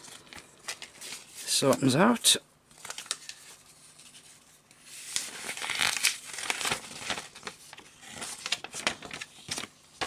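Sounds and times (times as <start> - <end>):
paper rustling and crackling: 0.0 - 1.9, 2.7 - 10.0.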